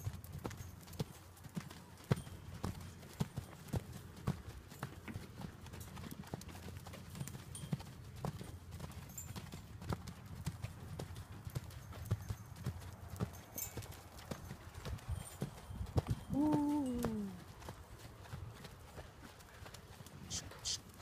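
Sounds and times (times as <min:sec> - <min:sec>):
horse hoofbeats: 0:00.0 - 0:21.0.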